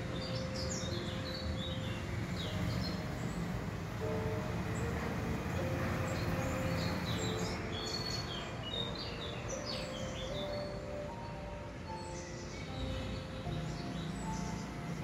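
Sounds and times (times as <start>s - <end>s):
small birds chirping: 0.0s - 15.0s
soft background music: 0.0s - 15.0s.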